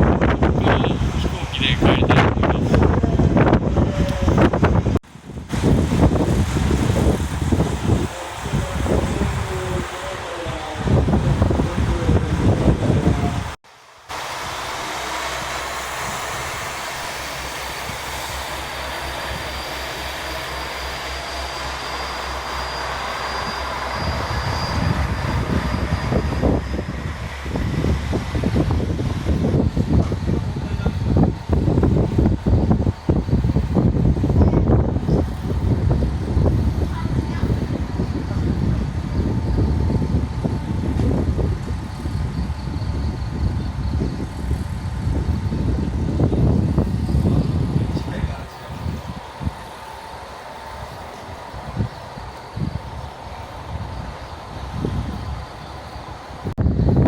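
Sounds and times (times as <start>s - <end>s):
heavy uneven low rumble: 0.0s - 57.0s
train rumbling: 0.0s - 57.0s
faint high whine: 5.5s - 57.0s.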